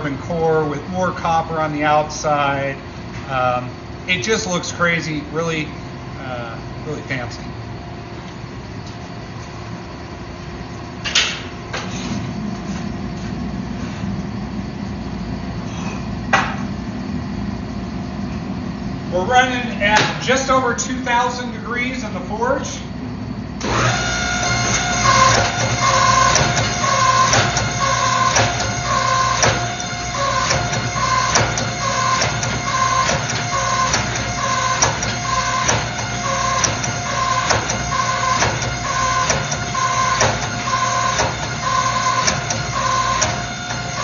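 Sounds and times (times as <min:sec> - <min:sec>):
forge and press humming: 0:00.0 - 0:44.0.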